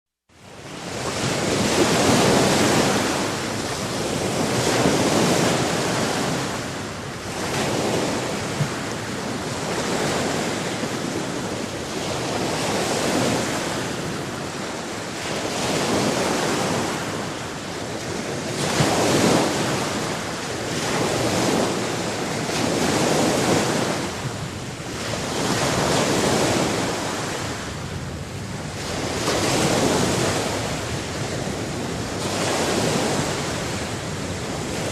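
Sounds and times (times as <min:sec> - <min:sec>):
waves breaking and washing in: 0:00.3 - 0:34.9.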